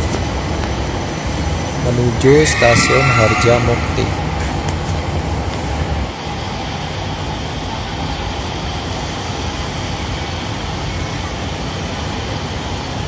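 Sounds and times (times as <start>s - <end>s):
station noise: 0.0s - 11.4s
air-conditioning hum: 0.0s - 13.0s
train humming at platform: 0.0s - 13.0s.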